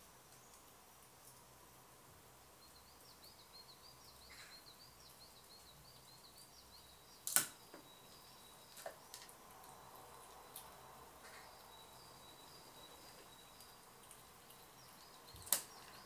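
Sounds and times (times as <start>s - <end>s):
small bird twittering: 2.6s - 16.0s.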